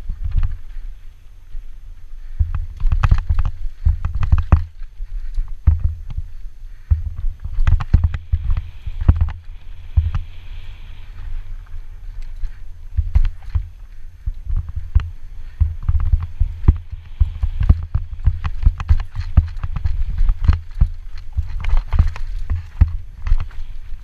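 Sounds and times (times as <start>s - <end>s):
bike tyres rumbling over bumps: 0.0s - 24.0s
wind buffeting microphone: 0.0s - 24.0s.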